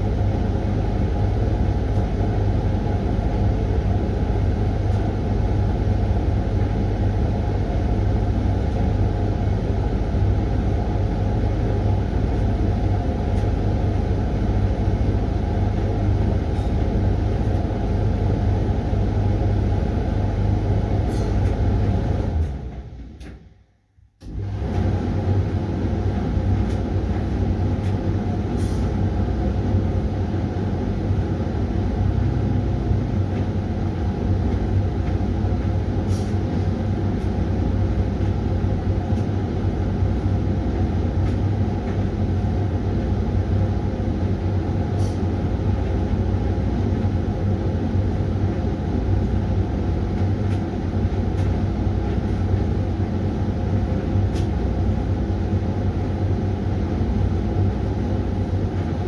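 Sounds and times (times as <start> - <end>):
washing machine humming: 0.0 - 23.6, 24.2 - 59.0.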